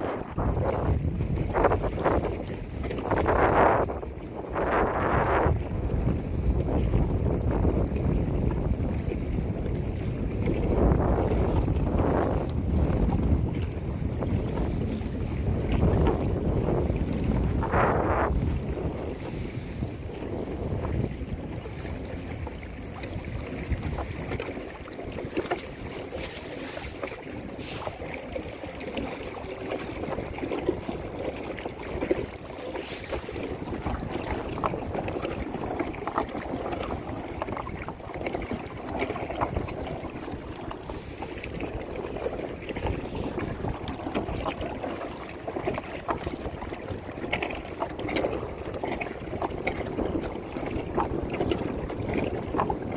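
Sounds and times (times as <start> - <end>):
water splashing around kayak: 0.0 - 52.9
wind noise on microphone: 0.0 - 52.9.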